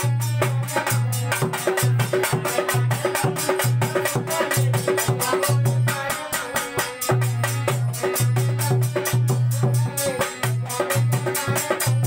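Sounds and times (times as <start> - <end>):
dholak drum rhythm: 0.0 - 12.0
harmonium melody: 0.0 - 12.0.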